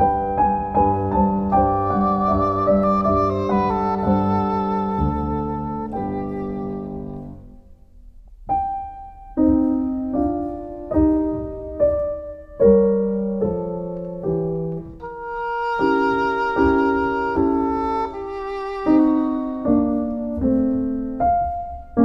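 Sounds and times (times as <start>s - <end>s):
piano chords and notes: 0.0s - 22.0s.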